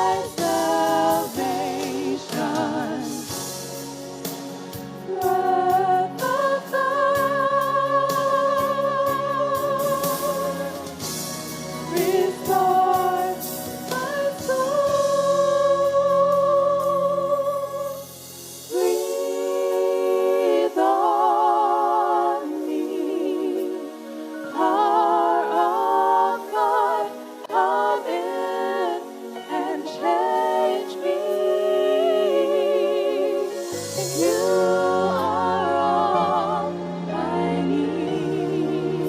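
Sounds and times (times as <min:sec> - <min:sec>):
soft musical backing: 0:00.0 - 0:39.0
vocal group singing in harmony: 0:00.0 - 0:39.0.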